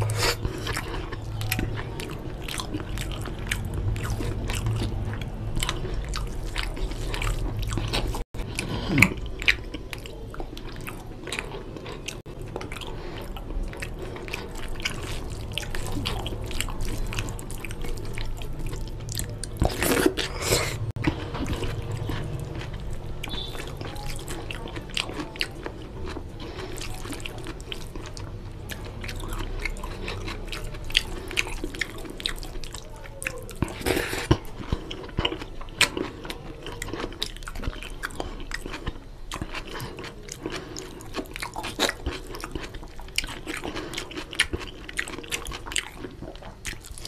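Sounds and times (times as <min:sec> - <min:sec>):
chewing with wet mouth clicks: 0:00.0 - 0:47.0.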